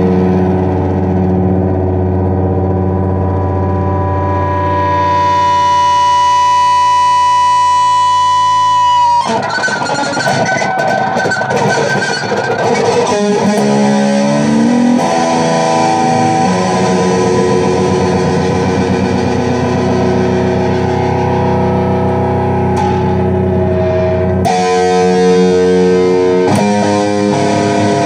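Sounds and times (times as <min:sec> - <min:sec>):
electric guitar through amp: 0:00.0 - 0:28.0.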